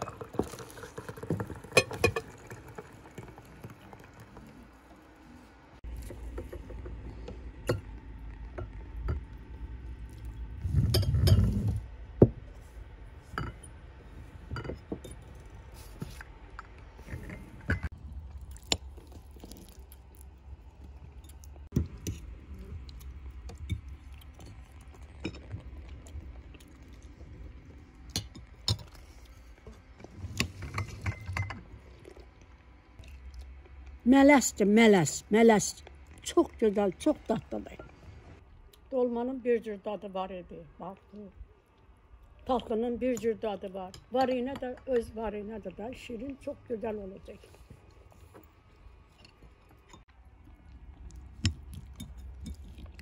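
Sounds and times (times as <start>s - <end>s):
low steady rumble: 0.0s - 53.0s.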